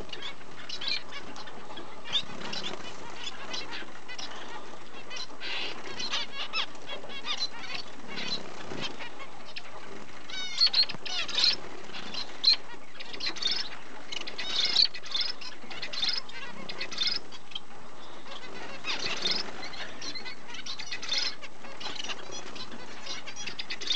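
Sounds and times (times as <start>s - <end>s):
background hiss: 0.0s - 23.9s
finches chirping: 0.0s - 23.9s.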